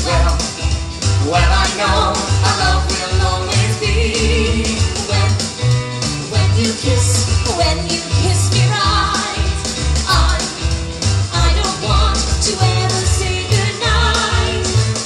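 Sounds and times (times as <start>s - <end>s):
bouncing bass line: 0.0s - 15.0s
live rock and roll music: 0.0s - 15.0s
singers on microphones: 0.0s - 15.0s.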